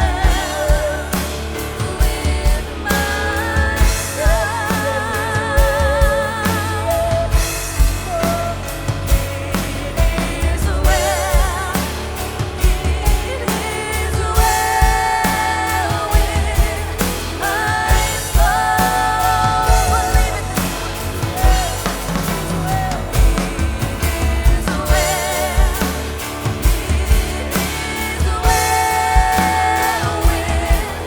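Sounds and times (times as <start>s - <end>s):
voices singing in harmony: 0.0s - 31.0s
worship band playing: 0.0s - 31.0s.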